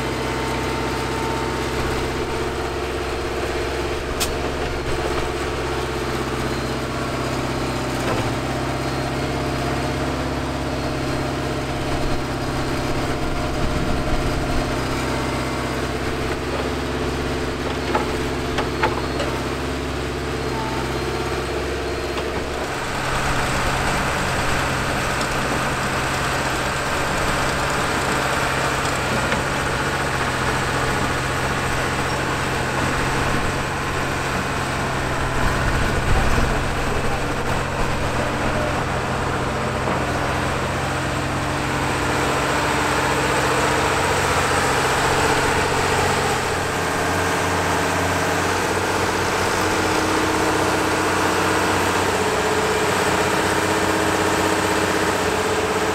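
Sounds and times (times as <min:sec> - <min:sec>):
machinery engine running: 0:00.0 - 0:55.9.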